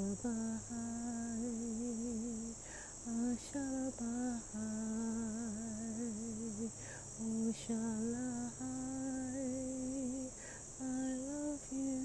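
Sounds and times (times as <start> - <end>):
insects droning: 0.0 - 12.0
woman singing wordless melody: 0.0 - 12.0.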